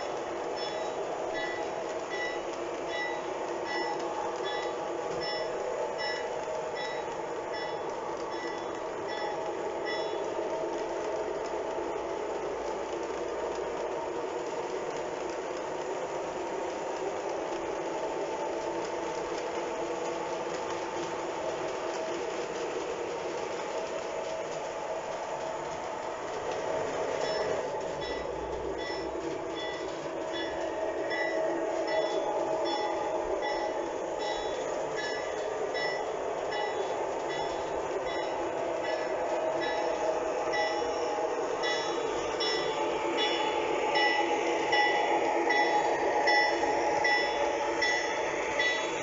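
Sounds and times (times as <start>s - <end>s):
toy train wheels rumbling: 0.0s - 49.0s.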